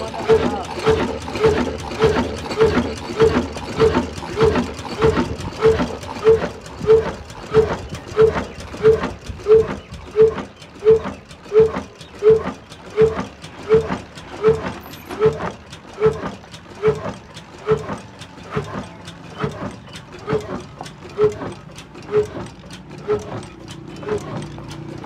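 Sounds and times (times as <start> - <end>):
heavy diesel engine running slowly: 0.0 - 25.0.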